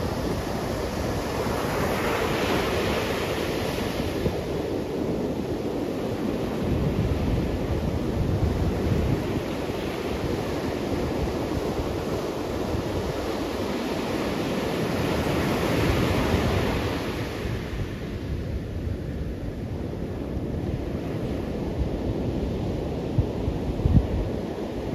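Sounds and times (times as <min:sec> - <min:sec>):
waves breaking on beach: 0:00.0 - 0:24.9.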